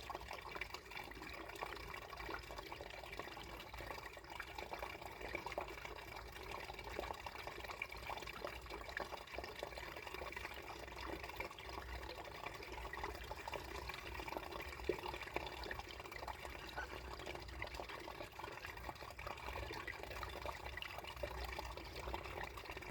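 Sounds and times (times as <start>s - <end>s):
small drips and ticks: 0.0s - 22.9s
water running beneath ice: 0.0s - 22.9s.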